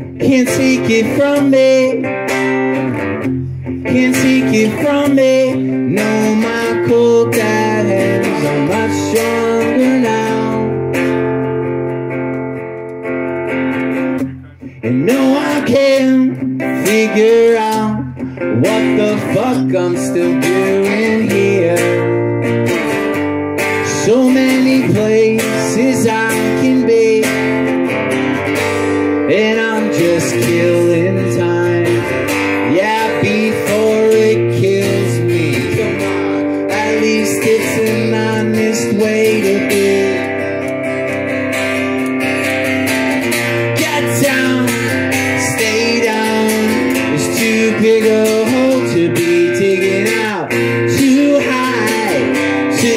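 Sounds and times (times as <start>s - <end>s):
man singing: 0.0s - 2.9s, 3.6s - 11.4s, 14.2s - 22.8s, 23.6s - 28.0s, 28.6s - 42.4s, 43.1s - 52.9s
acoustic guitar strumming: 0.0s - 52.9s.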